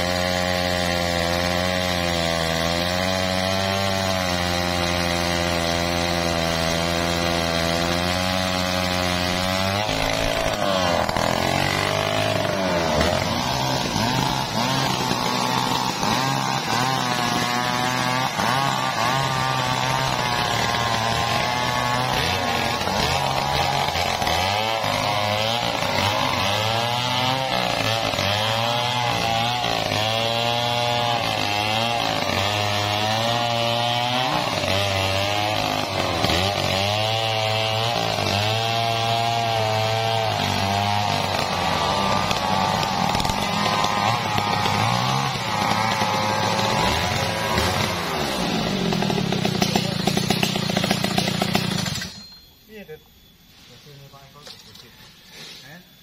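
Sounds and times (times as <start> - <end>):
chainsaws cutting wood: 0.0 - 52.9.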